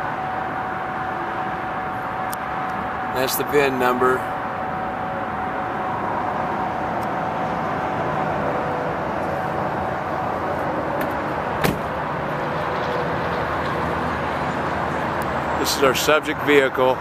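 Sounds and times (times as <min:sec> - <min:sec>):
freeway traffic noise: 0:00.0 - 0:17.0.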